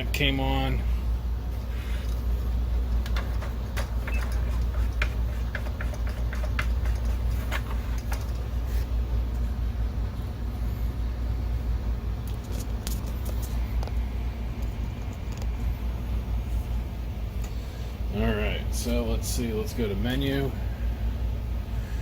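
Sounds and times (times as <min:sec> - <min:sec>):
projector fan hum: 0:00.0 - 0:22.0.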